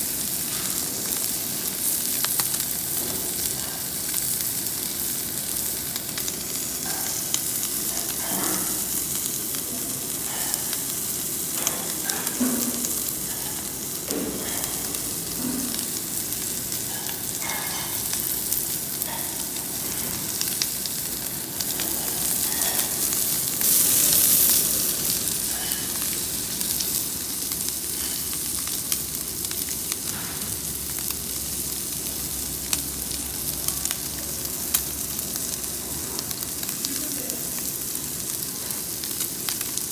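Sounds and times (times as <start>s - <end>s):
ribs sizzling on a grill: 0.0s - 39.9s.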